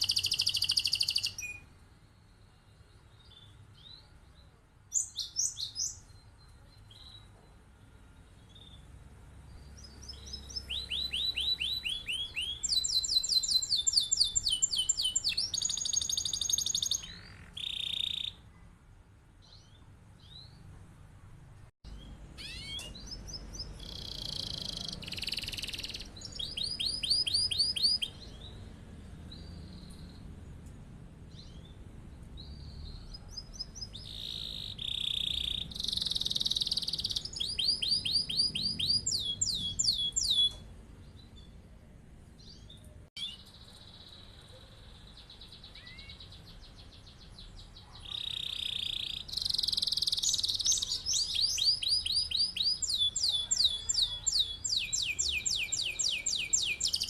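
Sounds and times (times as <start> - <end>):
canary singing trills: 0.0 - 18.5, 21.9 - 30.4, 31.3 - 41.6, 42.4 - 57.0.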